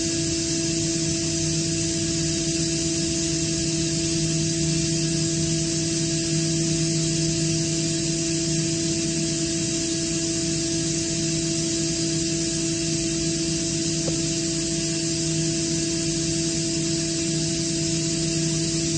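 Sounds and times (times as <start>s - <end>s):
air compressor hiss and hum: 0.0s - 18.9s.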